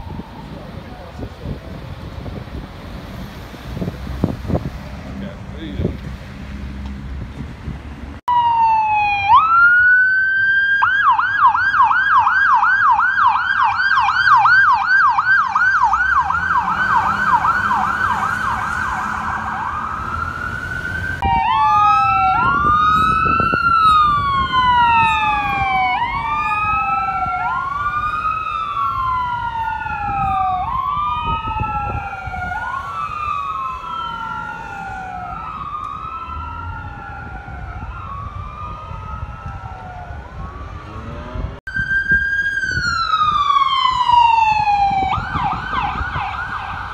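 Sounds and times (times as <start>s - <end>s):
ambulance siren wailing and yelping: 0.0s - 1.8s, 8.3s - 46.9s
siren slow wail: 0.0s - 4.6s, 8.3s - 46.9s.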